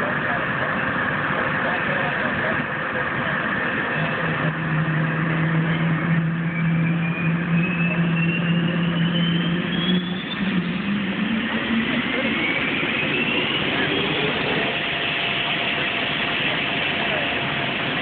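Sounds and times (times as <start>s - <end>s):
loud jet engine noise: 0.0s - 18.0s
low hum: 0.0s - 18.0s
high whine rising in pitch: 3.2s - 18.0s.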